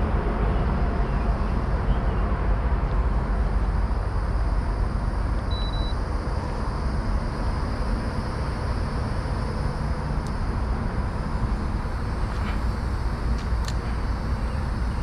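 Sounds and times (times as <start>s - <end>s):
low rumbling outdoor noise: 0.0s - 15.0s.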